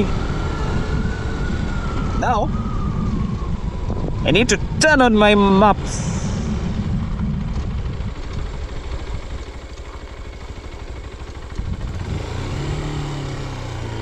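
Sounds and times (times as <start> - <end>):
motorcycle engine running: 2.6 - 14.0.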